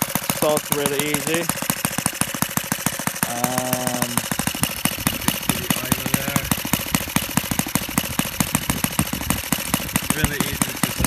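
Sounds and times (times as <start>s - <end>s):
model aircraft engine idling: 0.0s - 11.0s.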